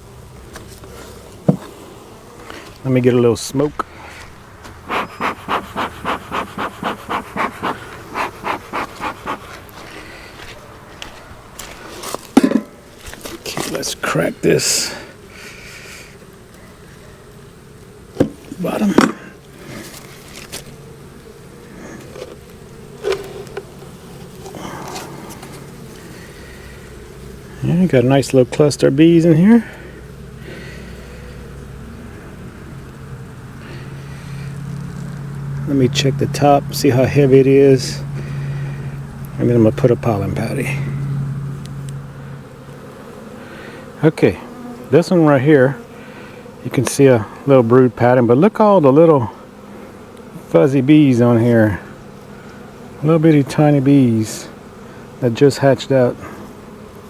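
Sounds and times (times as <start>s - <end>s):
bee smoker bellows puffing: 0.0s - 57.0s.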